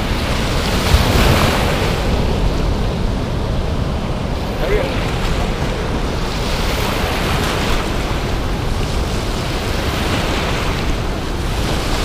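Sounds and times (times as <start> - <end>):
ocean surf washing up beach: 0.0 - 12.0
wind buffeting microphone: 0.0 - 12.0.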